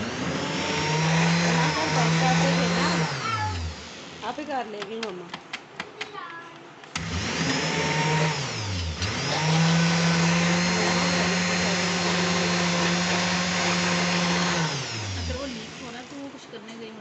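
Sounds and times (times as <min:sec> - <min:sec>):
blender motor humming: 0:00.0 - 0:04.5, 0:07.0 - 0:16.3.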